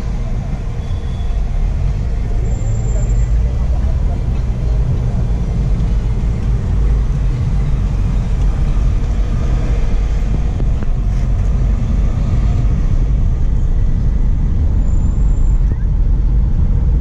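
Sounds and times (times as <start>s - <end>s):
car engine and road noise: 0.0s - 17.0s
surrounding traffic: 0.0s - 17.0s.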